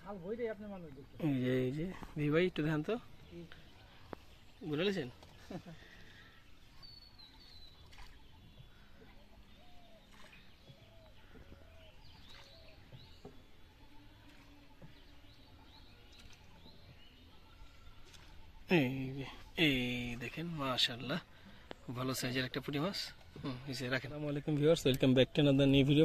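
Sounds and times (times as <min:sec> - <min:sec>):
distant birds calling: 0:00.0 - 0:26.0.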